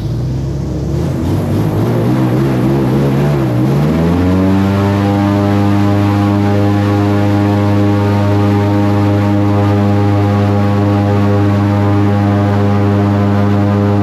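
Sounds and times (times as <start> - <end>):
airboat engine and propeller revving: 0.0 - 14.0.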